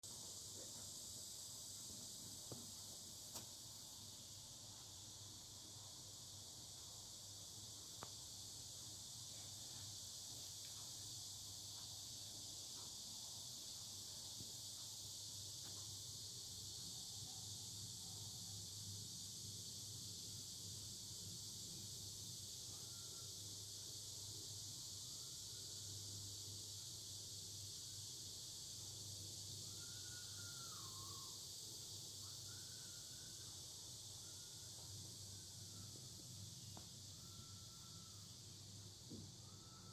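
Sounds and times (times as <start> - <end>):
cicadas buzzing: 0.1 - 39.9.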